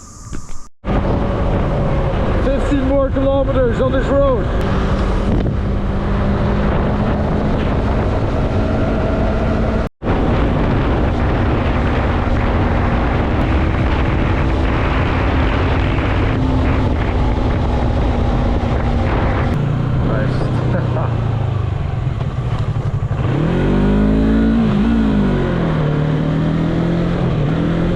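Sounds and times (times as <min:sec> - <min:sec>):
wind rushing over microphone: 0:00.0 - 0:27.9
motorcycle engine cruising: 0:00.9 - 0:27.9.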